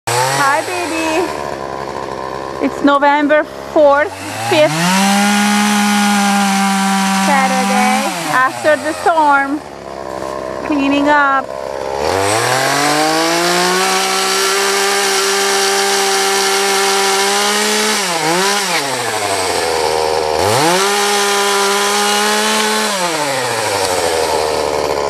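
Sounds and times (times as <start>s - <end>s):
chainsaw revving: 0.1s - 25.0s.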